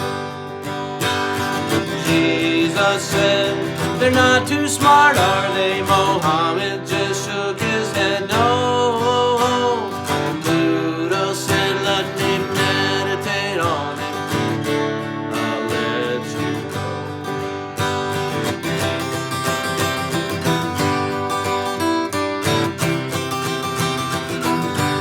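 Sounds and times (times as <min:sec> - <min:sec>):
strummed acoustic guitar: 0:00.0 - 0:25.0.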